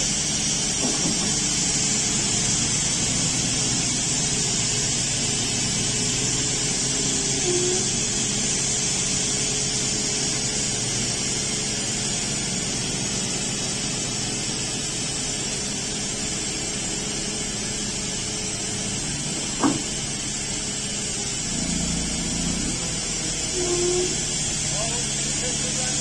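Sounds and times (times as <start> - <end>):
forklift engine running: 0.0 - 26.0
hiss: 0.0 - 26.0.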